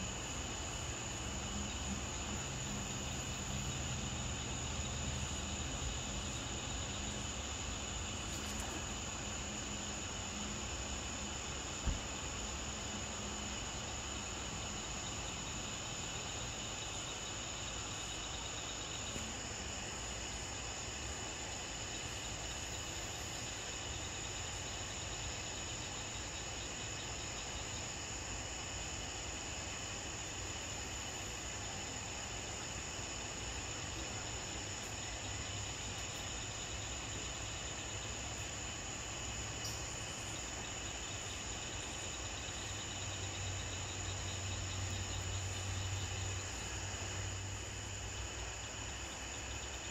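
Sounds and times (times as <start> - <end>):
night insects chirring: 0.0 - 49.9.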